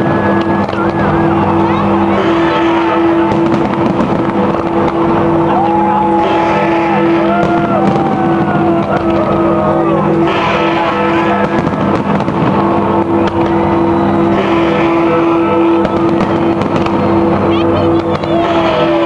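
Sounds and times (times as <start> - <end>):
fireworks bangs and crackles: 0.0 - 19.0
fireworks whistling glides: 0.0 - 19.0.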